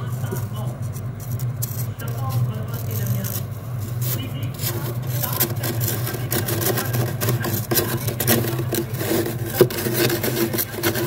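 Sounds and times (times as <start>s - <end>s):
knife scraping freezer frost: 0.0s - 11.0s
steady low hum: 0.0s - 11.0s.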